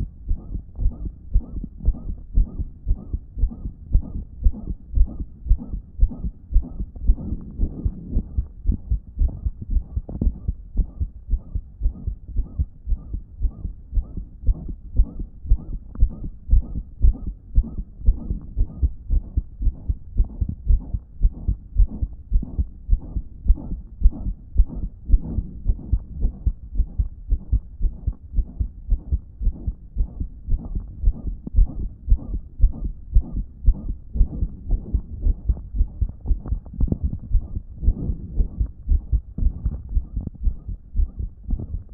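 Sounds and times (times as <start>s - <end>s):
blowing heart murmur: 0.0s - 41.9s
heartbeat: 0.0s - 41.9s.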